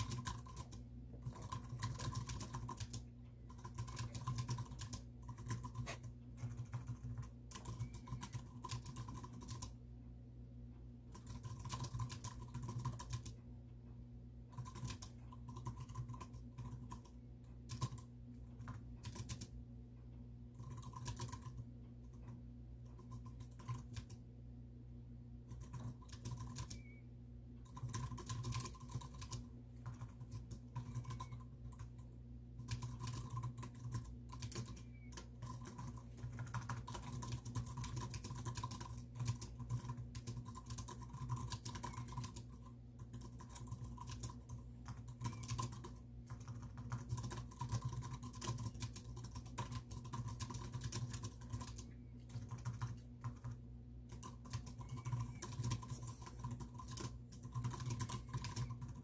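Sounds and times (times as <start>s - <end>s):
typing on computer keyboard: 0.0s - 9.8s, 11.0s - 13.4s, 14.5s - 24.2s, 25.4s - 59.0s.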